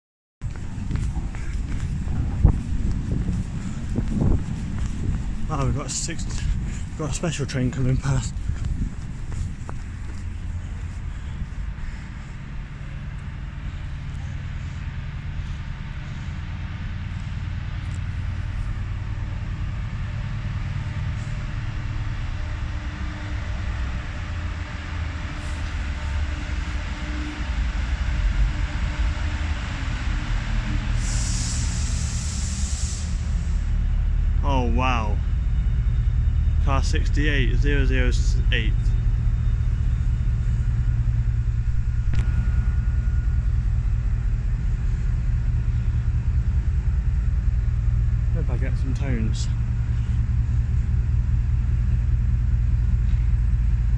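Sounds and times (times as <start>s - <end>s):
diesel train engine rumble: 0.4s - 53.9s.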